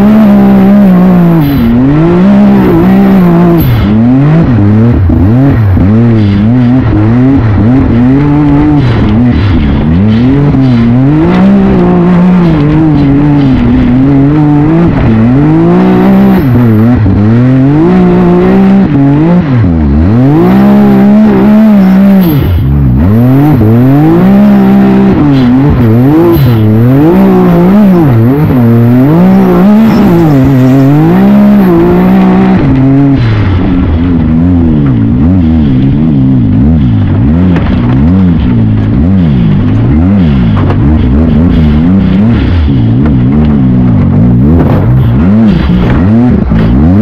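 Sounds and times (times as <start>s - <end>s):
engine revving at racing throttle: 0.0s - 47.0s.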